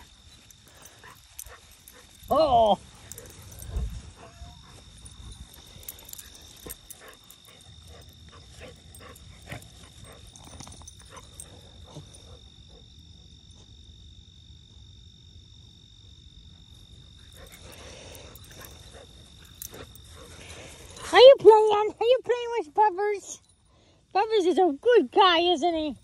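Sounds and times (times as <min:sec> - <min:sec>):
high insect chirr: 0:00.0 - 0:26.0.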